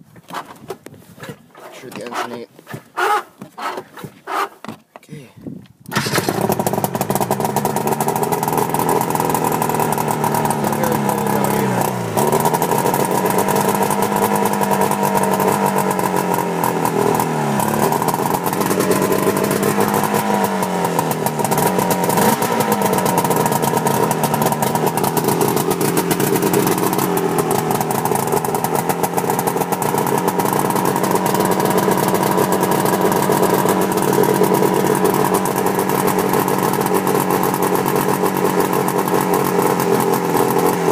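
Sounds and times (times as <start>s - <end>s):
snowmobile engine starting and running: 3.0s - 4.6s, 5.8s - 40.9s.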